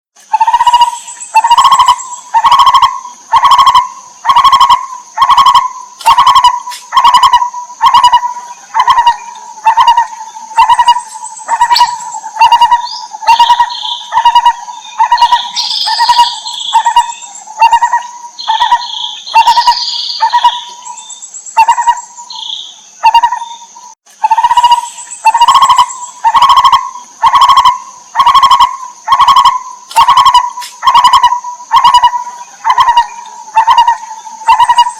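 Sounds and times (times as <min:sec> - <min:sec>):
barbet calling: 0:00.2 - 0:34.9
bird chirping: 0:00.2 - 0:34.9.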